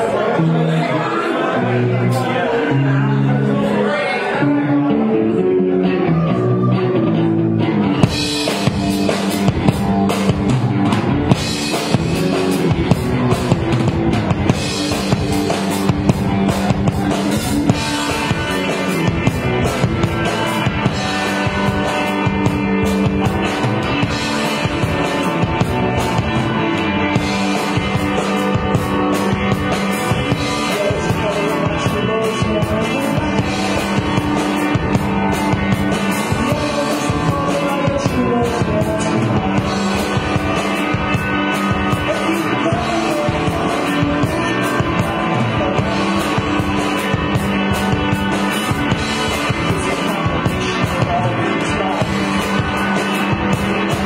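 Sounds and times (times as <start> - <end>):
electric guitars: 0.0 - 54.0
rock band playing: 0.0 - 54.0
drum kit steady beat: 7.9 - 54.0.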